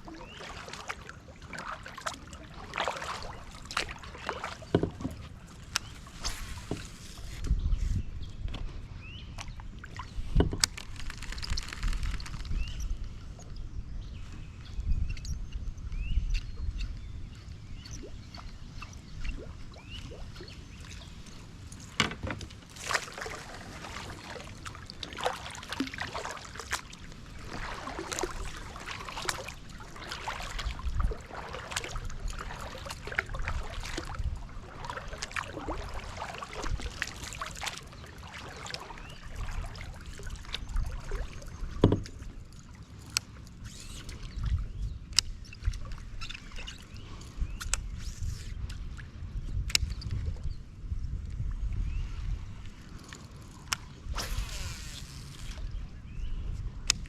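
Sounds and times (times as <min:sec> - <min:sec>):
water splashing and trickling: 0:00.0 - 0:08.0, 0:09.3 - 0:13.5, 0:16.7 - 0:50.5, 0:51.2 - 0:56.0.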